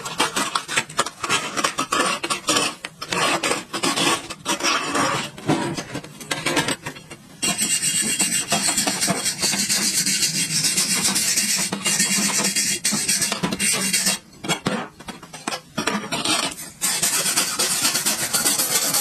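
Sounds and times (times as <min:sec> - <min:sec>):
rasping and scraping on metal: 0:00.0 - 0:19.0.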